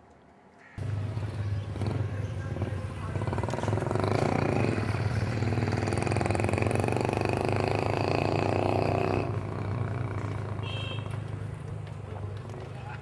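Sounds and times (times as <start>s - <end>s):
small motorcycle engine running: 0.8s - 12.0s.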